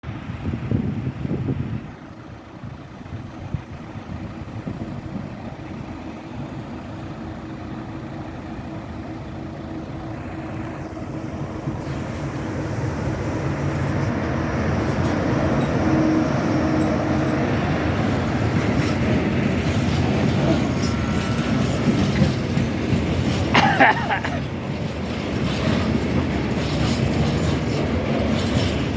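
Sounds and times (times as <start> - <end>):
freight train approaching: 0.0 - 28.9.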